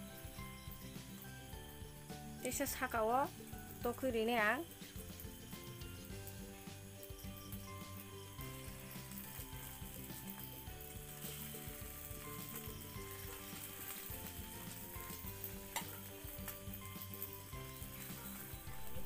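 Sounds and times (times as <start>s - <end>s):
egg sizzling in a pan: 0.0s - 19.0s.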